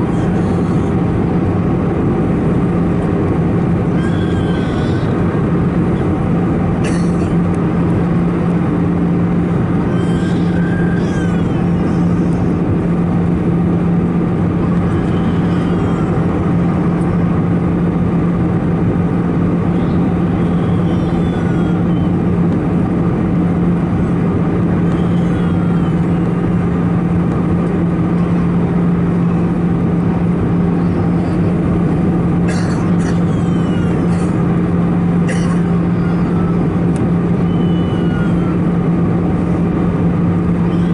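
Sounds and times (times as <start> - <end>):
airliner cabin engine roar: 0.0 - 40.9
low hum: 0.0 - 40.9.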